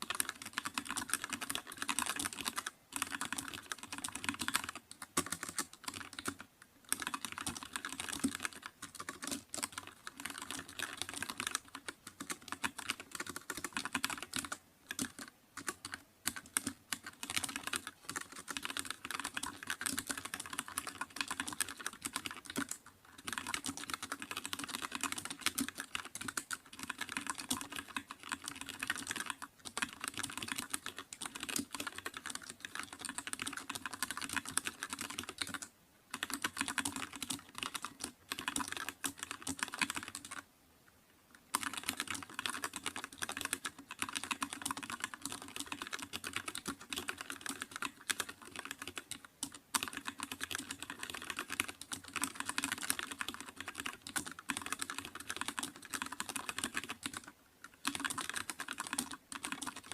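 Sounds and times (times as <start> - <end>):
fast typing on keyboard: 0.0 - 40.4, 41.5 - 59.9.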